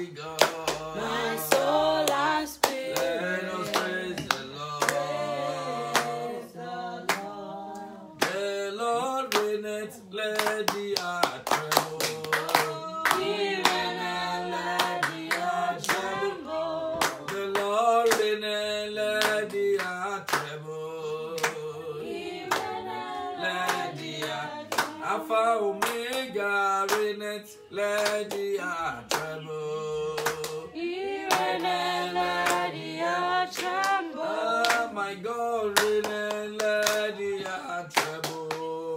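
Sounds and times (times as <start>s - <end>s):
hands clapping in rhythm: 0.0s - 38.9s
man singing worship song: 0.0s - 38.9s.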